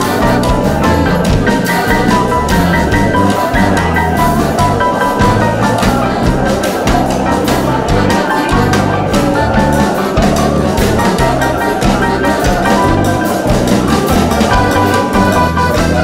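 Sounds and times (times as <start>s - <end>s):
music with drum beat and bass: 0.0s - 16.0s.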